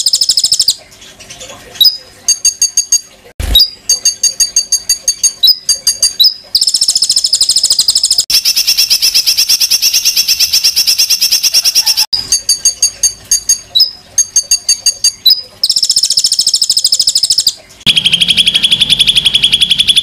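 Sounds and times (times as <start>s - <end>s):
songbird chirps and trills: 0.0s - 20.0s.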